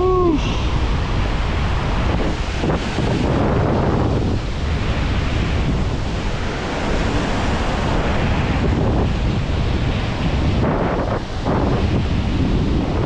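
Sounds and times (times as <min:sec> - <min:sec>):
ocean surf breaking on rocks: 0:00.0 - 0:13.0
wind buffeting microphone: 0:00.0 - 0:13.0.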